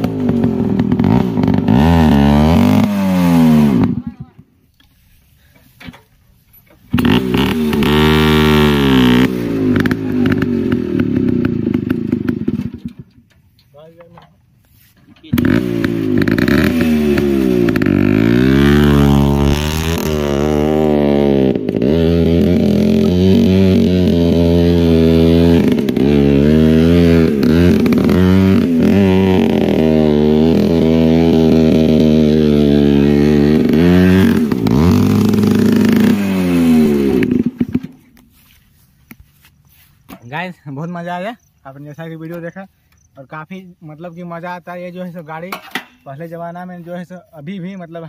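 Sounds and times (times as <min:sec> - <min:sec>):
motorcycle engine revving: 0:00.0 - 0:04.4, 0:06.7 - 0:13.2, 0:15.2 - 0:43.1.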